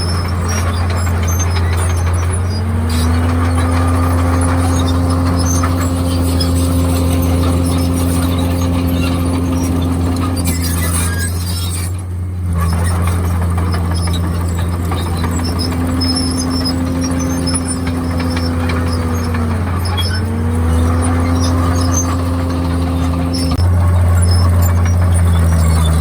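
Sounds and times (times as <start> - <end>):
bulldozer diesel drone: 0.0 - 26.0
engine whine: 0.0 - 26.0.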